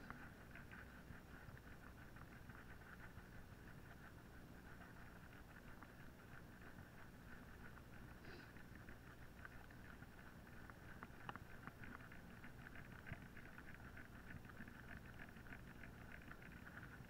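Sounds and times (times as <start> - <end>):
faint patter of ticks: 0.0 - 17.0
low steady rumble: 0.0 - 17.0.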